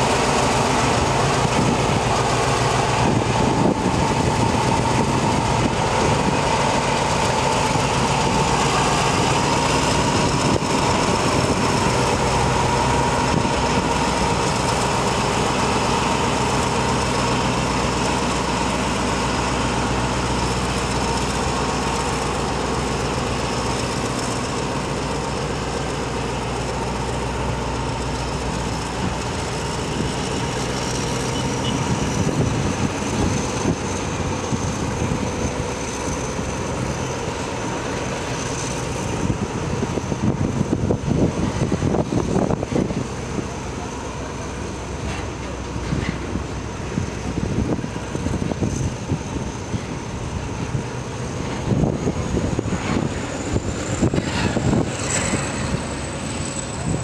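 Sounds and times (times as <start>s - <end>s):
diesel locomotive engine running: 0.0s - 57.0s
locomotive whine: 0.0s - 57.0s.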